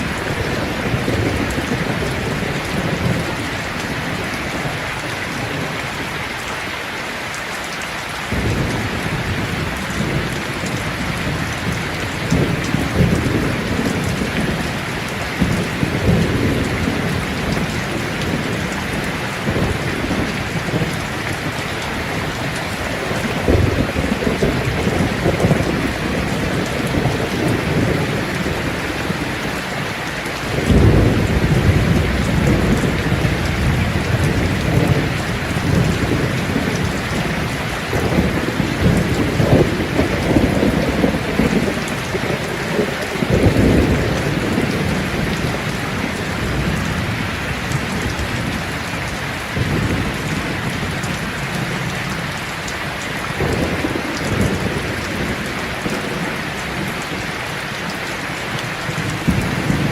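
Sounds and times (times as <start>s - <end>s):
low rolling thunder: 0.0s - 6.2s, 8.3s - 52.4s, 53.2s - 57.3s, 58.8s - 59.9s
steady rain falling: 0.0s - 59.9s.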